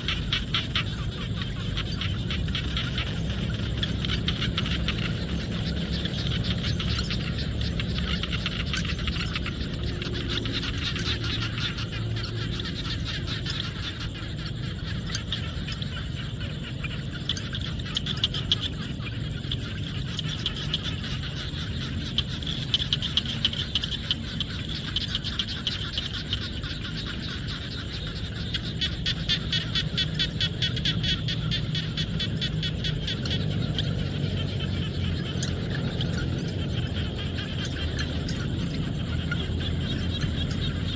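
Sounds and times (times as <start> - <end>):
frogs clicking calls: 0.0 - 40.9.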